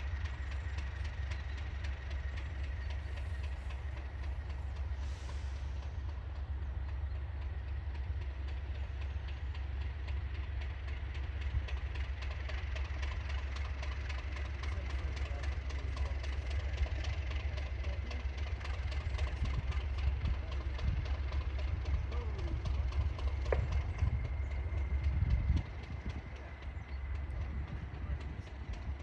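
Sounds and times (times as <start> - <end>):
diesel locomotive engine drone: 0.0 - 29.0.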